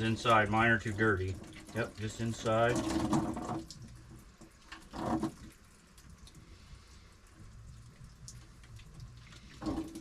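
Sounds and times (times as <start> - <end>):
water dripping and trickling: 0.0 - 10.0.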